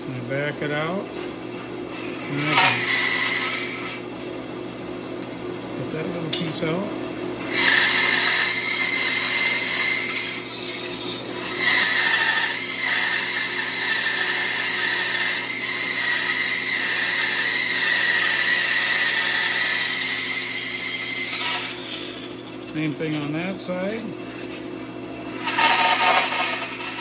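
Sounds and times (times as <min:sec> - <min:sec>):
bandsaw cutting wood: 0:00.0 - 0:04.1, 0:05.9 - 0:27.0.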